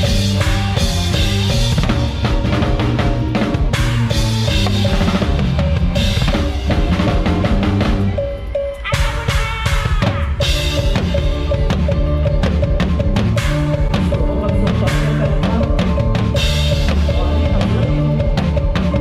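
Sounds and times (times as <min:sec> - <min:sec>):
bass drum and snare beat: 0:00.0 - 0:19.0
bass line: 0:00.0 - 0:19.0
keyboard: 0:00.0 - 0:19.0.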